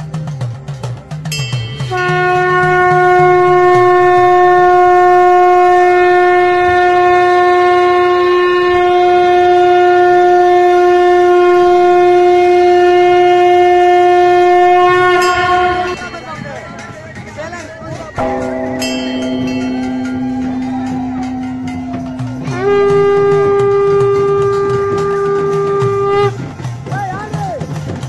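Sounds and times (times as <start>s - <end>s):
conch shell long note: 1.9s - 17.1s, 18.2s - 26.5s.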